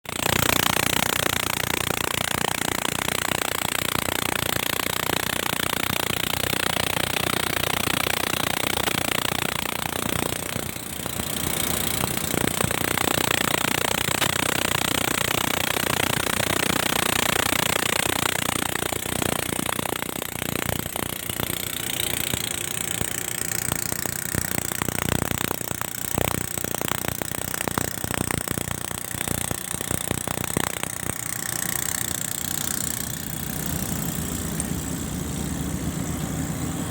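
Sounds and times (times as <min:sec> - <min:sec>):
rapid knocking clatter: 0:00.0 - 0:35.4
locomotive engine running: 0:00.1 - 0:36.9.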